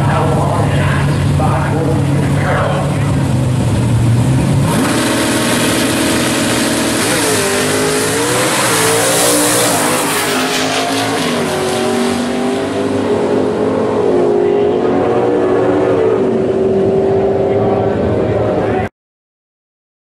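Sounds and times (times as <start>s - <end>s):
drag car engine at full throttle: 0.0s - 18.9s.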